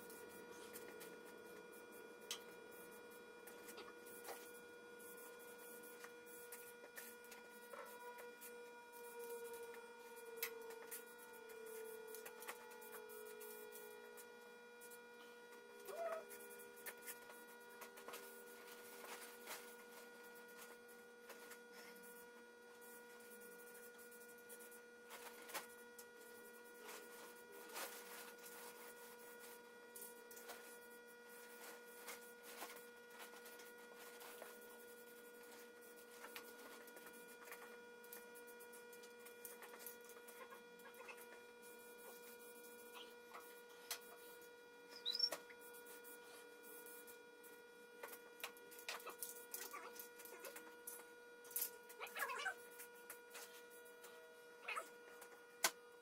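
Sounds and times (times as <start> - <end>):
faint electrical buzz: 0.0 - 56.0.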